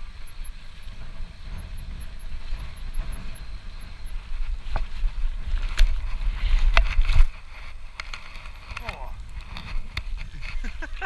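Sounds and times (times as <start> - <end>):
bike rolling over rough ground: 0.0 - 11.0
wind buffeting microphone: 0.0 - 11.0.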